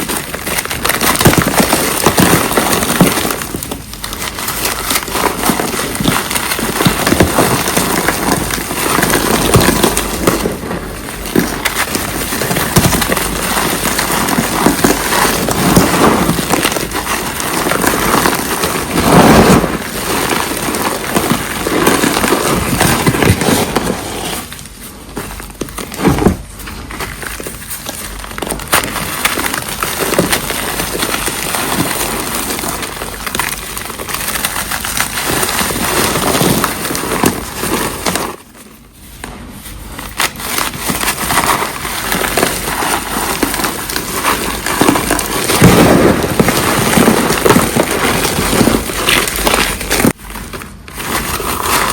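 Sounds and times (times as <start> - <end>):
cornstarch crunching and crackling: 0.0 - 51.9.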